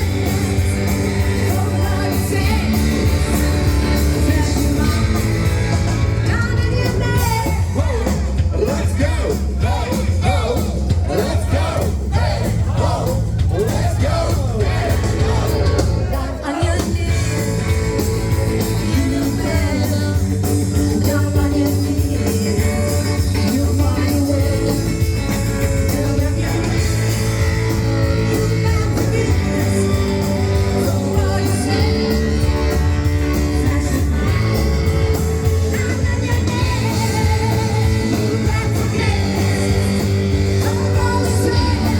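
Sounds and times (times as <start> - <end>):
rock band playing: 0.0 - 41.9
person singing: 6.6 - 41.9.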